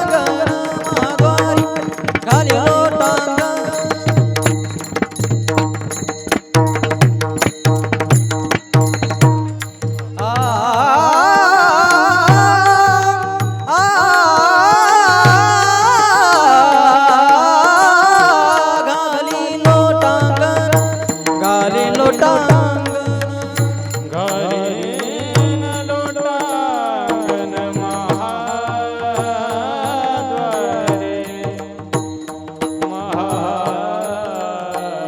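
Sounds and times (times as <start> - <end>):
person singing wordless melody: 0.0 - 5.9, 8.8 - 35.0.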